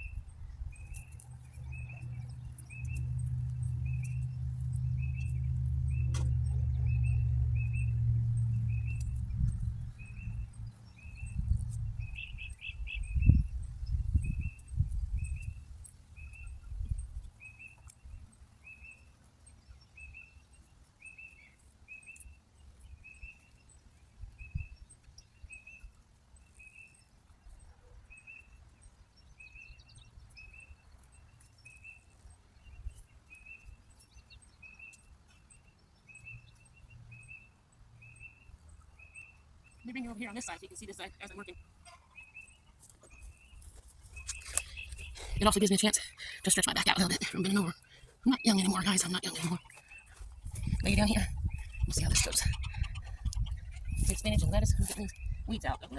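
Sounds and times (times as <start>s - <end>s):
bird chirping: 0.0s - 22.3s, 26.5s - 55.9s.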